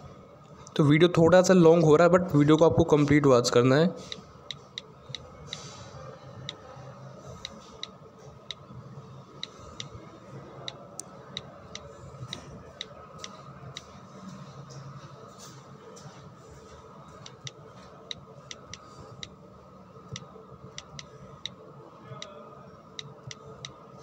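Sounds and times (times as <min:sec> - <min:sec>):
faint background noise: 0:00.0 - 0:24.0.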